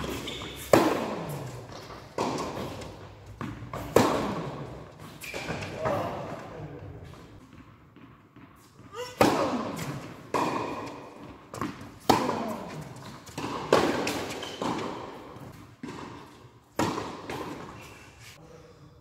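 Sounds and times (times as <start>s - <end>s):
tennis ball impacts: 0.0s - 6.5s, 7.4s - 17.7s.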